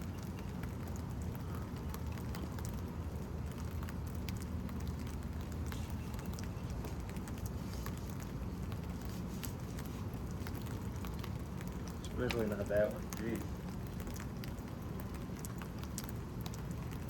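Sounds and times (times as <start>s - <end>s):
raindrop ticks: 0.0s - 17.0s
steady rain hiss: 0.0s - 17.0s.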